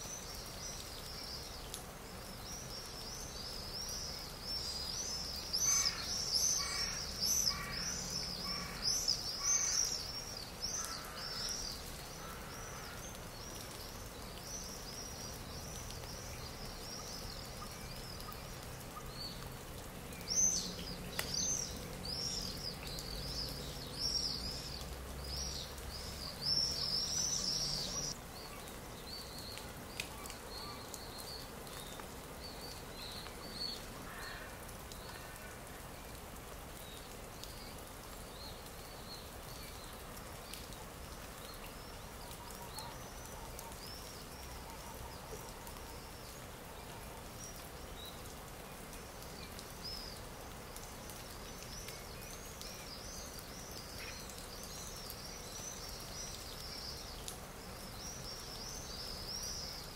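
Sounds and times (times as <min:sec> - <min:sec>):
small birds chirping: 0:00.0 - 0:59.9
steady background hiss: 0:00.0 - 0:59.9.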